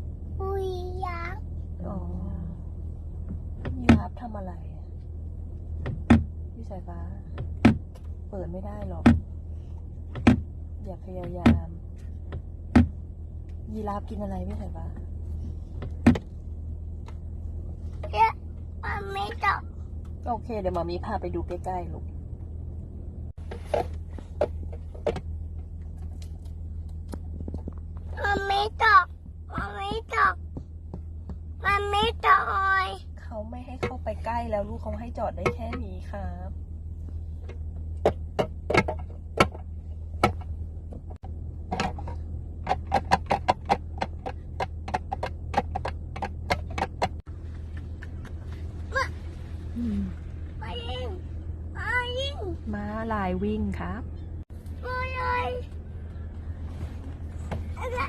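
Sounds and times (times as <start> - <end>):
car engine hum inside cabin: 0.0 - 58.0.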